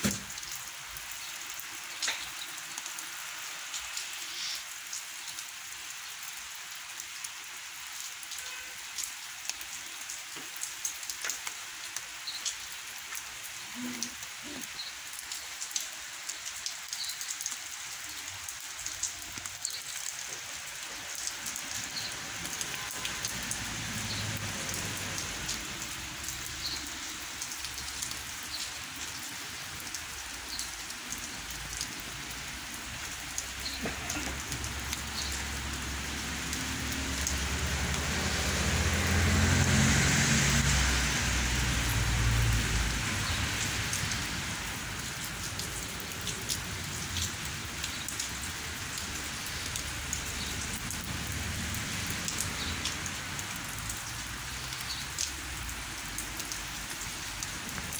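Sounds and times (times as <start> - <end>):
rain falling on plants: 0.0 - 57.9
drips ticking: 8.3 - 57.9.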